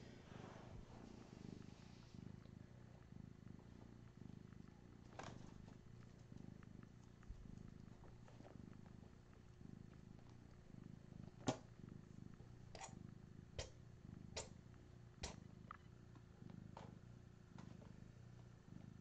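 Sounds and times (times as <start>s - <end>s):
faint cat purring: 0.0s - 19.0s.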